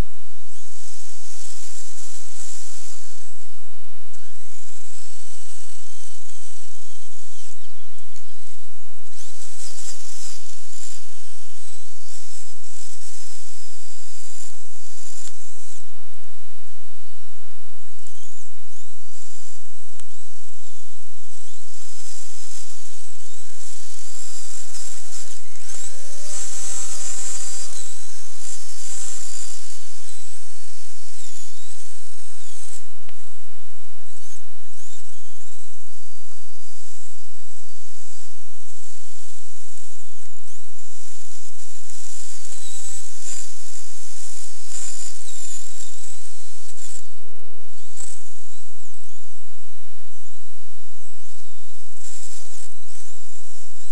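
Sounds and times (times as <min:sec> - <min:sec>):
small electric motor whining: 0:00.0 - 0:53.9
steady hiss: 0:00.0 - 0:53.9.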